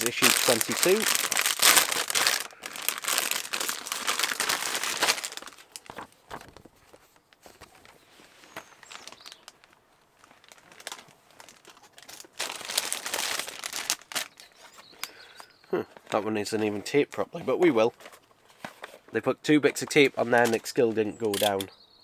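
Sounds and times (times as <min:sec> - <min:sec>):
packaging crinkling and crumpling: 0:00.0 - 0:17.0, 0:19.8 - 0:21.7.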